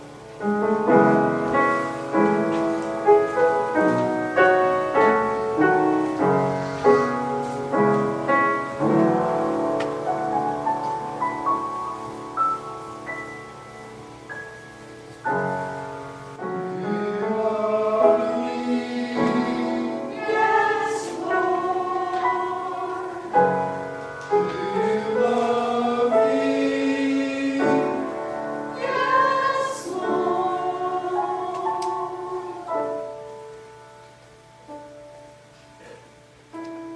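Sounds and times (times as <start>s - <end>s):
choir singing a hymn: 0.0s - 33.8s.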